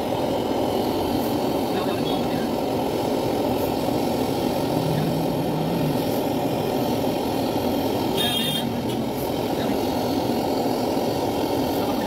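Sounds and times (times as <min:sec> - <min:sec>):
gas torch burning: 0:00.0 - 0:12.0.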